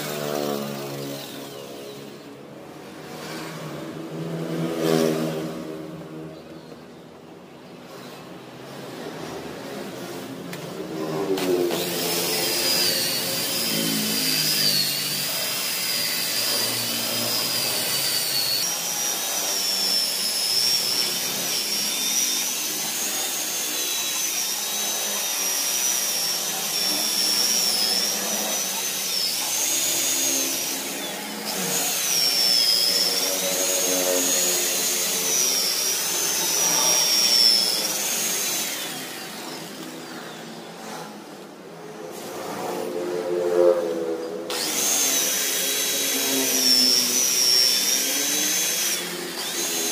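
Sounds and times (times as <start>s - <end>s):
rotary polisher motor whine: 0.0s - 3.6s, 9.0s - 49.9s.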